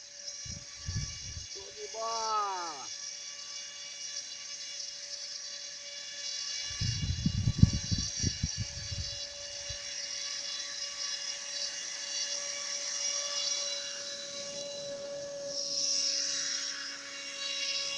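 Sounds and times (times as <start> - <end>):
small motor whining: 0.0 - 17.9.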